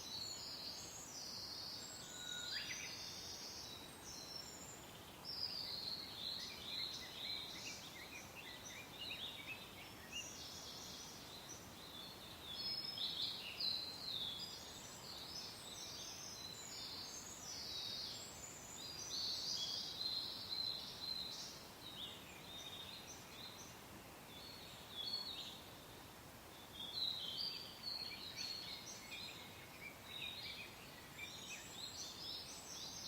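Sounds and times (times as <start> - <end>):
soft steady wind: 0.0 - 33.0.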